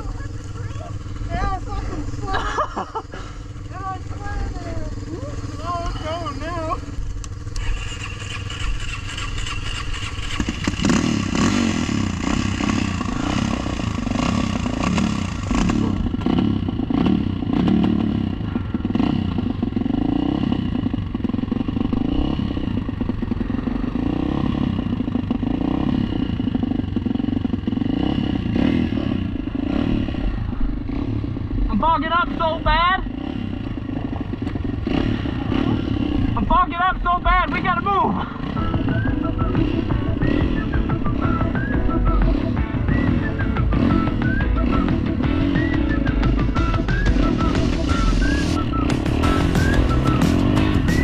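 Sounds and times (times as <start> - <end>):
quad bike engine revving: 0.0 - 51.0.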